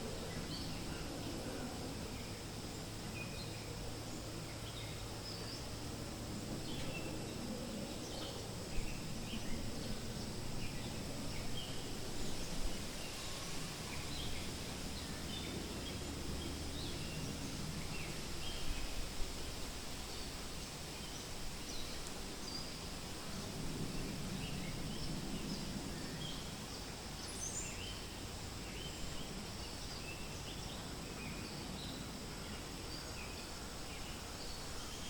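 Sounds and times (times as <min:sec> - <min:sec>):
faint insect hum: 0:00.0 - 0:35.0
wind rustling: 0:00.0 - 0:35.0.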